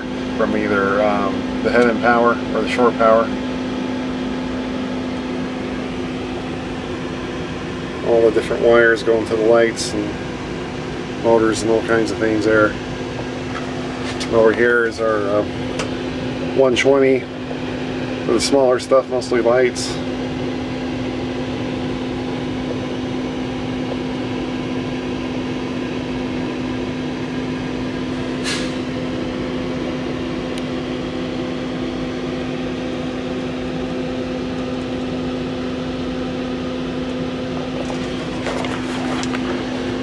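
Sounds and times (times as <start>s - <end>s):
electrical hum: 0.0s - 40.0s
ventilation air rush: 0.0s - 40.0s.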